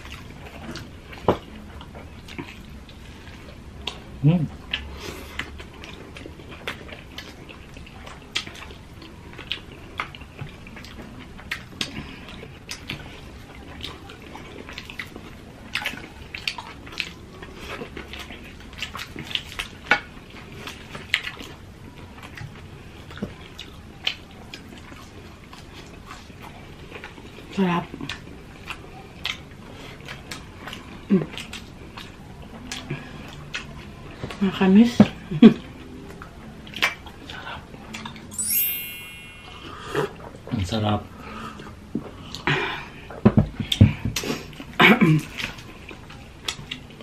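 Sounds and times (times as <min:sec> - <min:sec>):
people chewing: 0:00.0 - 0:34.4, 0:35.0 - 0:38.2, 0:41.2 - 0:47.0.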